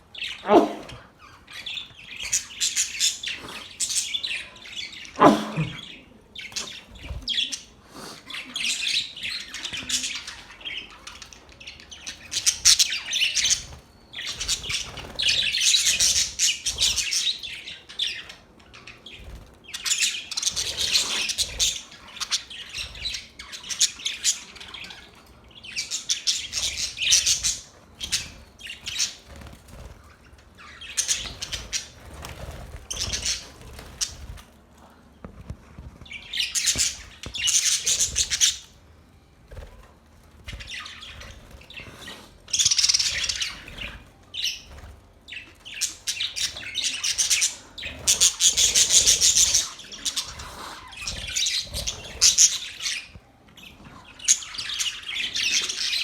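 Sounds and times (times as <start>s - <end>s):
budgerigars chirping: 0.1s - 34.2s, 36.3s - 38.8s, 40.5s - 56.0s.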